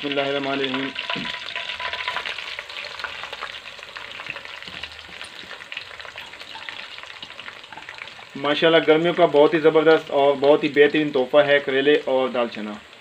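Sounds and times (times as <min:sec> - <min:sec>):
vegetables frying in hot oil: 0:00.0 - 0:13.0.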